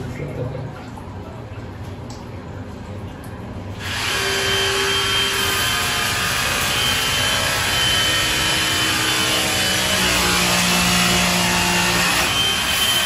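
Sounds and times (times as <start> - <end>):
pump low hum: 0.0 - 13.0.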